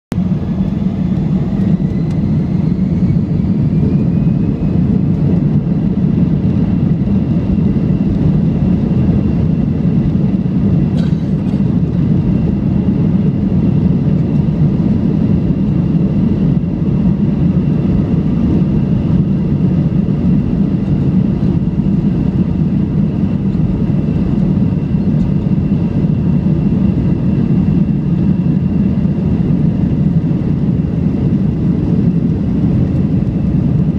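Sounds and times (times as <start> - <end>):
jet engine rumble and whine: 0.1 - 33.9.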